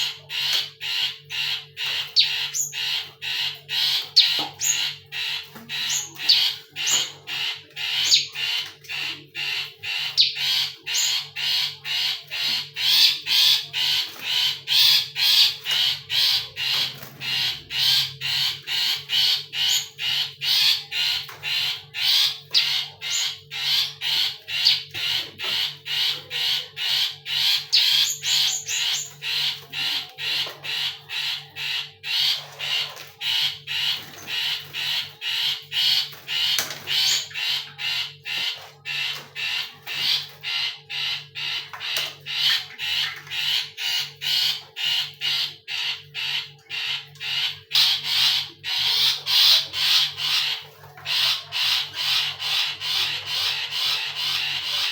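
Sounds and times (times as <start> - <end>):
caged bird harsh notes: 0.0 - 54.9.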